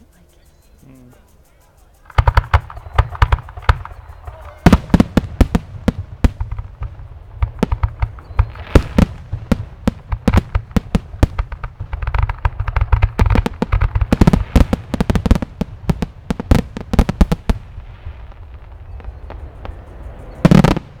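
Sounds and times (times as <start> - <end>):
fireworks bangs and crackles: 2.0 - 21.0.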